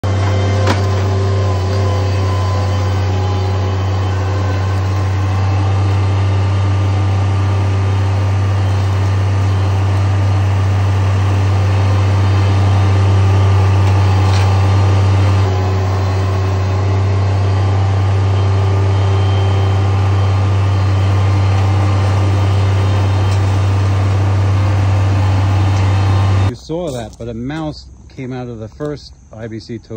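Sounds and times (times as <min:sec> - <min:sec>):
loader engine humming: 0:00.0 - 0:29.9.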